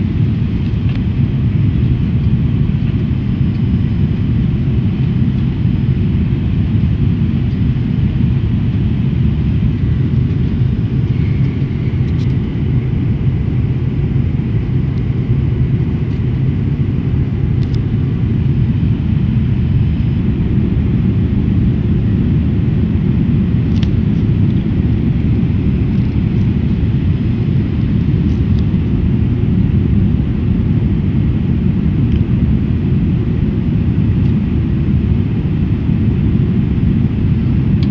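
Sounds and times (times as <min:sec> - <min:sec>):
engine and airflow rumble: 0:00.0 - 0:37.9.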